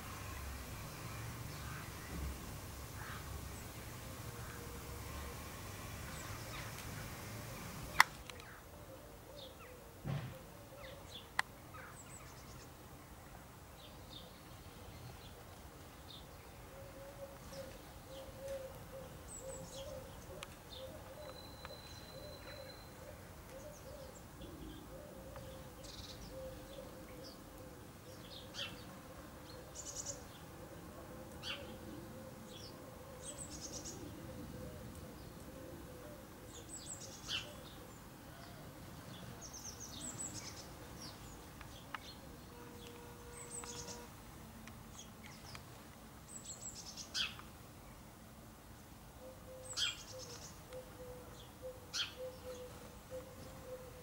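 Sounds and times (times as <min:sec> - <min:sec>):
sparrows chirping: 0:00.2 - 0:08.7, 0:13.8 - 0:30.5, 0:31.4 - 0:31.9, 0:32.5 - 0:35.5, 0:36.2 - 0:44.2, 0:44.9 - 0:47.5, 0:49.3 - 0:54.0.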